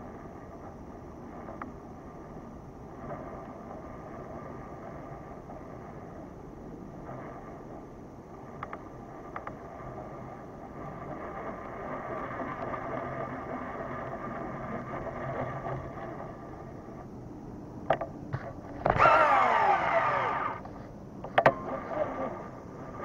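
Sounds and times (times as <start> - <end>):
fishing reel gear whir: 0.0 - 17.1, 17.9 - 23.0
reel clicks: 0.0 - 23.0
spool spinning whine: 0.0 - 23.0.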